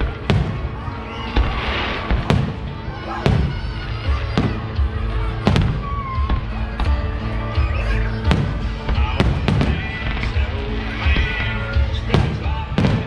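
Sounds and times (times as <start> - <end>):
music playing: 0.0 - 13.0.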